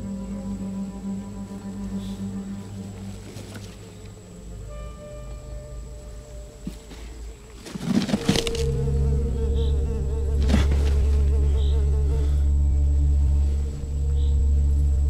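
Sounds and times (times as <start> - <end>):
flies buzzing: 0.0 - 15.0.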